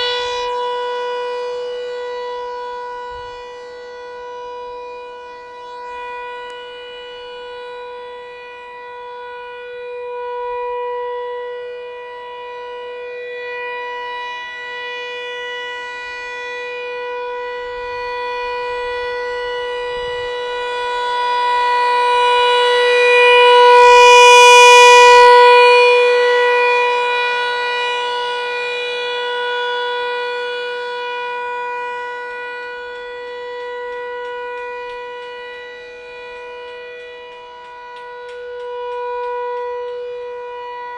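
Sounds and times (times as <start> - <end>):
rotating siren wailing: 0.0 - 40.9.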